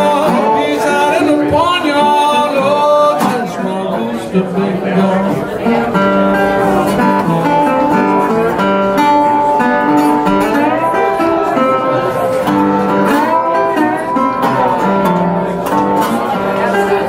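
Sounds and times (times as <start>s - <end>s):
resonator guitar slide blues: 0.0s - 17.0s.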